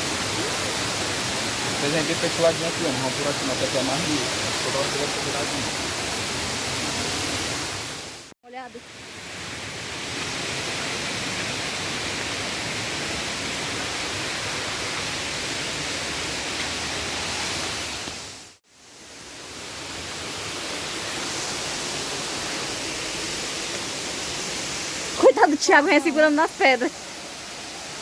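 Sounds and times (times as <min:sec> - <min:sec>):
waterfall rushing water: 0:00.0 - 0:28.0.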